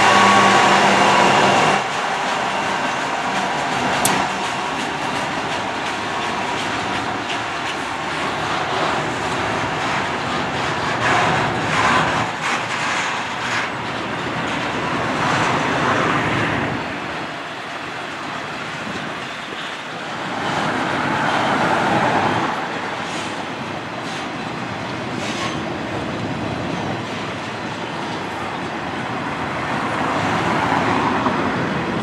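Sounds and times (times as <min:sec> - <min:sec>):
diesel locomotives running: 0:00.0 - 0:32.0
freight cars rolling on rails: 0:00.0 - 0:32.0.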